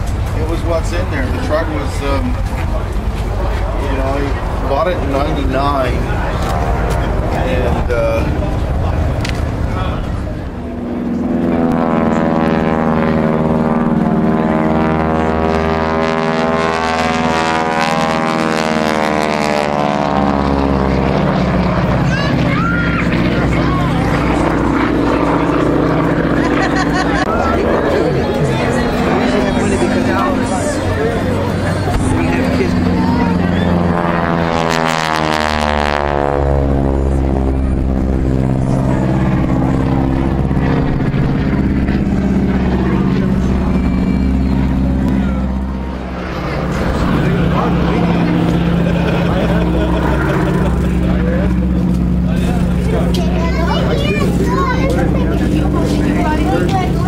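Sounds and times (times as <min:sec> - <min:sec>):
propeller airplane engine droning: 0:00.0 - 0:57.0.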